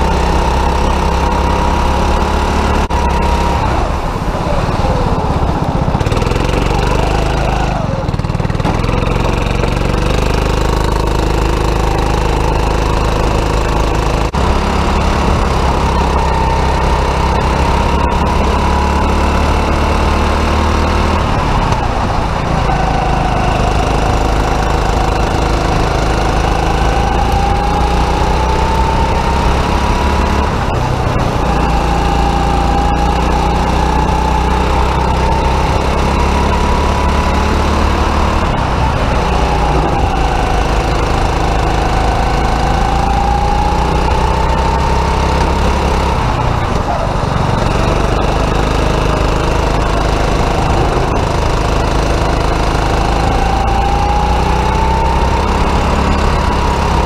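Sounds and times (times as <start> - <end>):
kart engine accelerating: 0.0 - 57.0.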